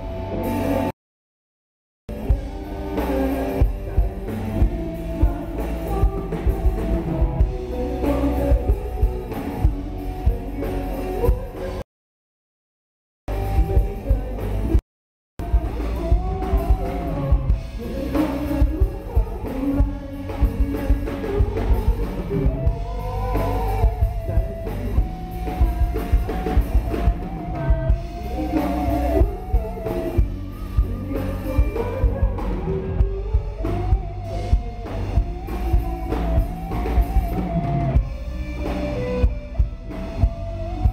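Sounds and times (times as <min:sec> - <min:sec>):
electric guitars: 0:00.0 - 0:00.9, 0:02.1 - 0:11.8, 0:13.3 - 0:14.8, 0:15.4 - 0:40.9
drum kit beat: 0:02.1 - 0:11.8, 0:15.4 - 0:40.9
man singing: 0:02.1 - 0:11.8, 0:13.3 - 0:14.8, 0:15.4 - 0:38.0.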